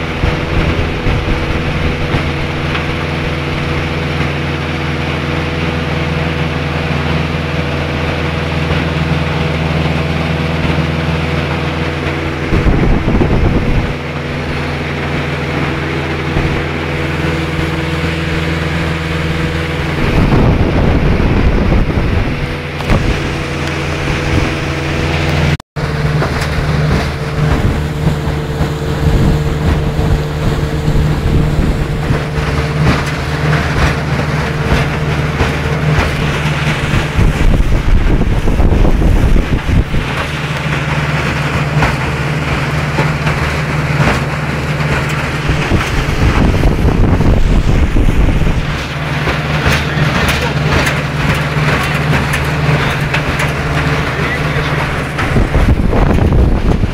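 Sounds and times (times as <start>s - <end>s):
outboard motor running: 0.0s - 56.9s
rushing wind and water: 0.0s - 56.9s.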